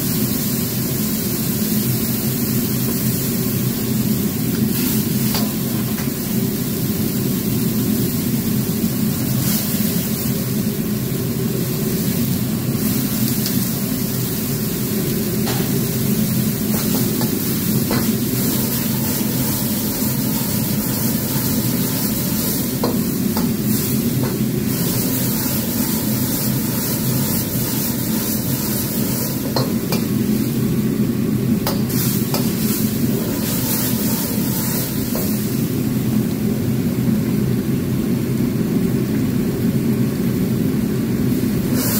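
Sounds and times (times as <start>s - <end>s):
sauce sizzling and bubbling: 0.0s - 41.9s
wok burner roaring: 0.0s - 41.9s.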